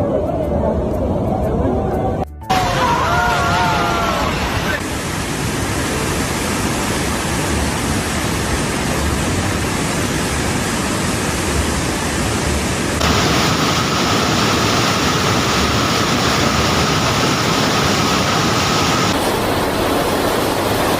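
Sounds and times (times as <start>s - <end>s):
rushing water: 2.4s - 20.9s.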